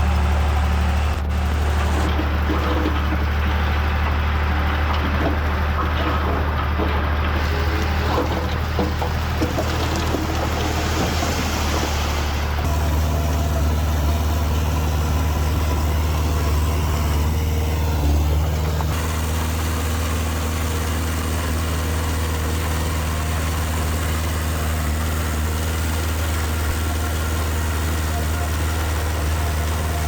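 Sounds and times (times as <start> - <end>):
diesel engine of heavy machinery: 0.0 - 30.0.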